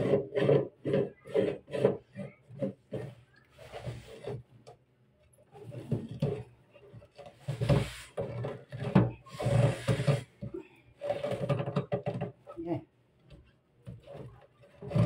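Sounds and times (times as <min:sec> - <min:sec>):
plastic rubbing and creaking: 0:00.0 - 0:15.0.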